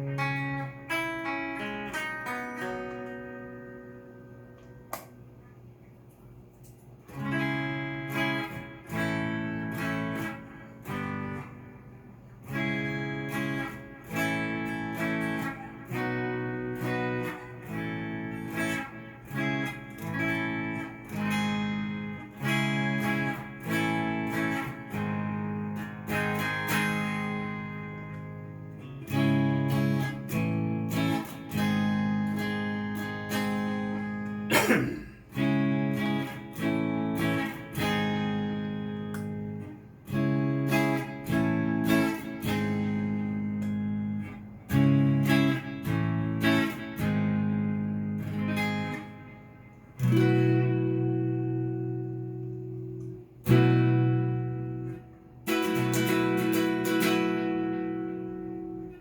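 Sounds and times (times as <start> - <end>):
clean electric guitar strumming chords: 0.0 - 59.0.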